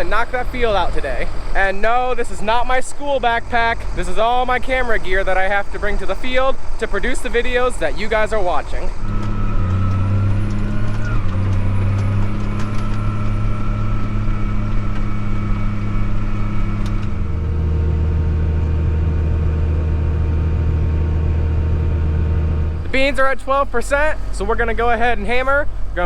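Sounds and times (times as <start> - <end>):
faint whine: 0.0 - 26.0
vehicle engine running: 0.0 - 26.0.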